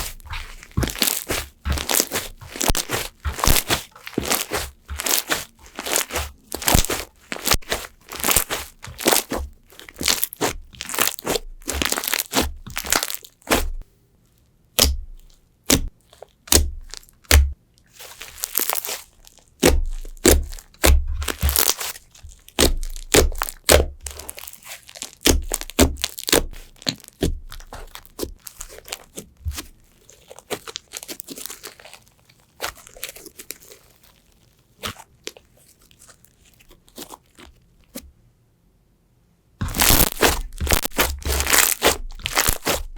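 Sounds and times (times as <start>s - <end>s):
slime crackling as squeezed: 0.0s - 13.8s, 14.7s - 38.0s, 39.6s - 42.9s.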